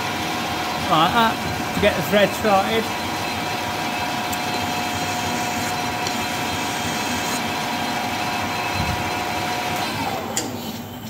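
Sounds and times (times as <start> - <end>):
metal lathe whining: 0.0 - 11.0.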